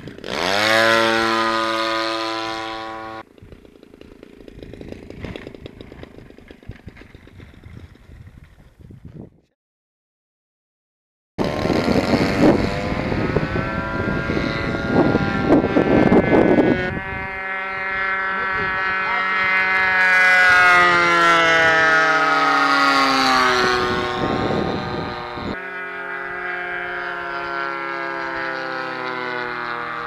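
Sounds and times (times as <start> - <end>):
model plane engine buzzing: 0.0 - 8.4, 11.4 - 30.0.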